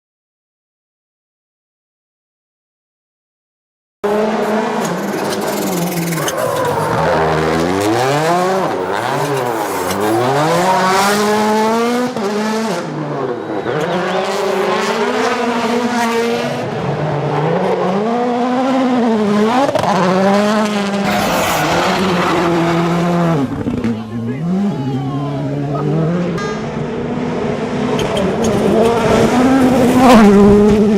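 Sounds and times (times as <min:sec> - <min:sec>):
rally car engines revving: 0:04.0 - 0:30.9.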